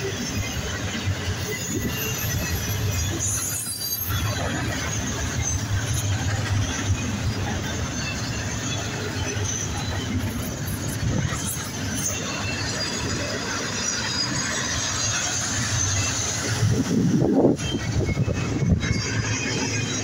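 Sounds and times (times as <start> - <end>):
high wheel squeal: 0.0 - 20.0
train rumbling and clattering: 0.0 - 20.0.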